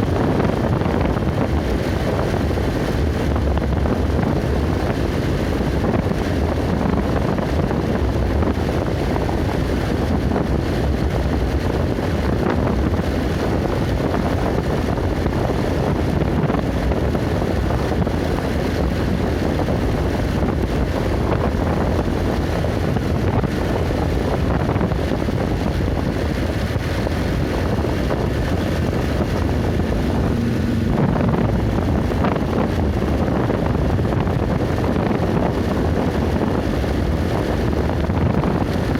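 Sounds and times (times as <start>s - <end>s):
vehicle driving on road: 0.0s - 38.9s
wind buffeting microphone: 0.0s - 38.9s.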